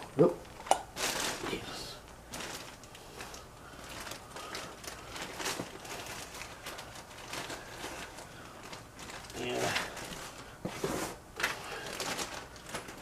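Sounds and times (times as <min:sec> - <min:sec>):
packing material rustling: 0:00.0 - 0:13.0.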